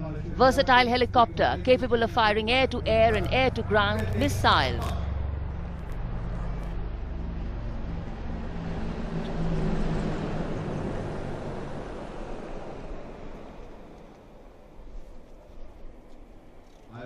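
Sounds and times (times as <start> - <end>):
helicopters flying past: 0.0 - 16.7.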